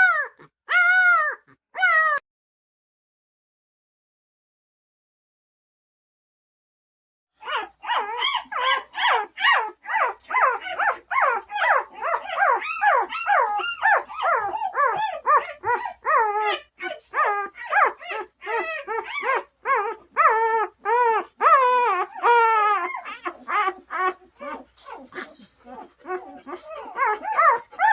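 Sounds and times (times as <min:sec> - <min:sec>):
puppies crying: 0:00.0 - 0:02.2, 0:07.4 - 0:27.9.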